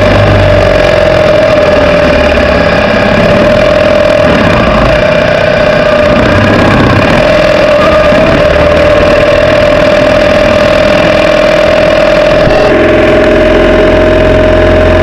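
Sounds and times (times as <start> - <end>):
constant high tone: 0.0 - 15.0
vehicle engine running: 0.0 - 15.0.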